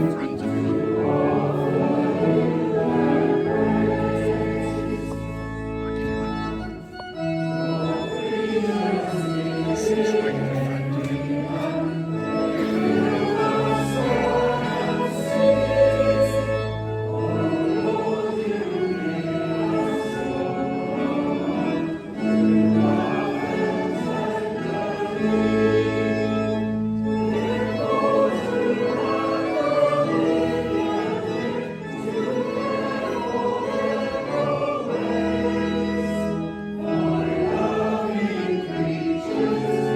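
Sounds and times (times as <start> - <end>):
choir singing a hymn: 0.0 - 39.9
organ: 0.0 - 39.9.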